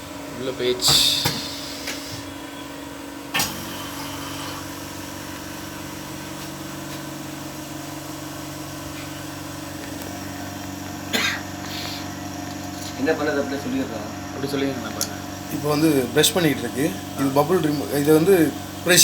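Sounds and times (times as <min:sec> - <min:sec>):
laminating press electric hum: 0:00.0 - 0:19.0.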